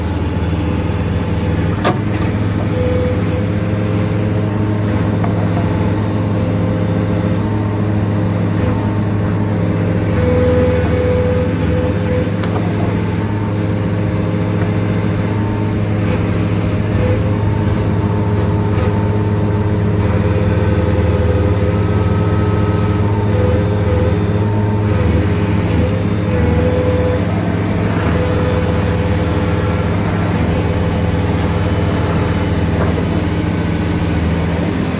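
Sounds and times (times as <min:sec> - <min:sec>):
excavator deep machine hum: 0:00.0 - 0:34.9
hydraulic whine: 0:00.0 - 0:34.9.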